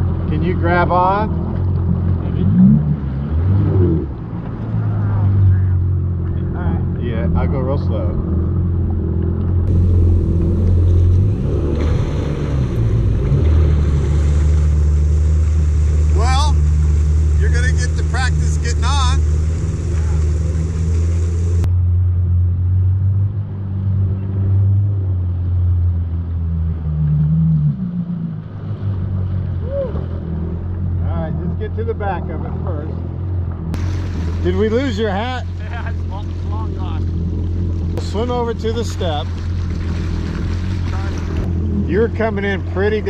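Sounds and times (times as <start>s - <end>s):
jet ski engine low hum: 0.0s - 43.0s.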